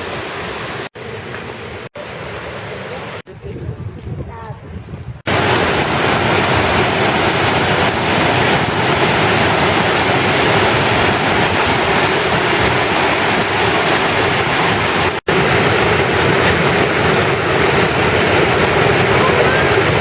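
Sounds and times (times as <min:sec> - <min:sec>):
waterfall rushing: 0:00.0 - 0:03.2, 0:05.3 - 0:20.0.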